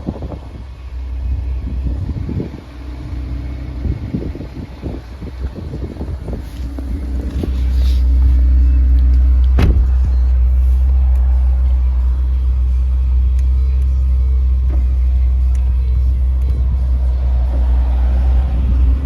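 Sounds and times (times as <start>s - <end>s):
car engine low rumble: 0.0s - 19.0s.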